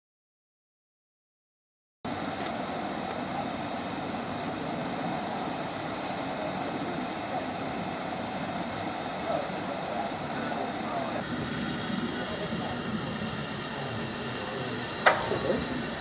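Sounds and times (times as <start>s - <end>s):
steam locomotive hissing: 2.1s - 16.0s.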